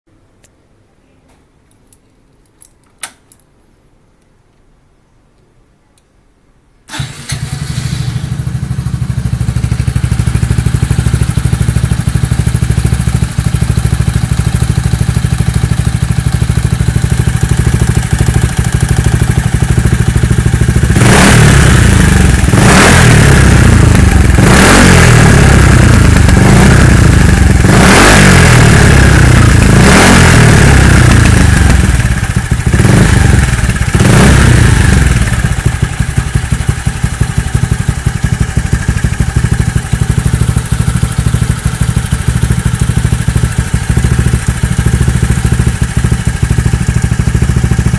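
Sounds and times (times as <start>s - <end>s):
scooter engine idling and revving: 6.9s - 47.9s.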